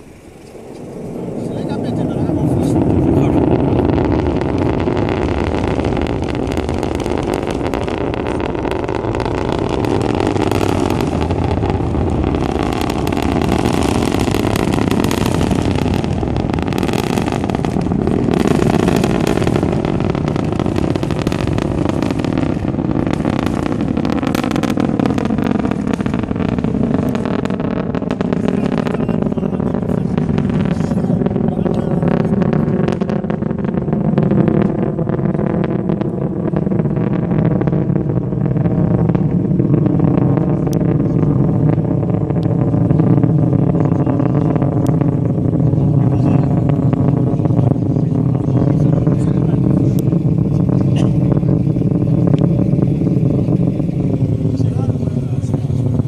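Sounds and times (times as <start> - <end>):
distant rocket engines roaring: 0.0 - 56.0
hollow falling sweep: 0.0 - 56.0.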